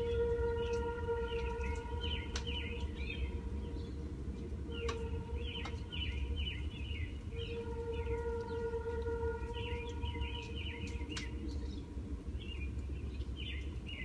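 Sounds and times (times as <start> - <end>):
distant freight train rumbling: 0.0 - 14.0
small birds chirping: 0.0 - 14.0.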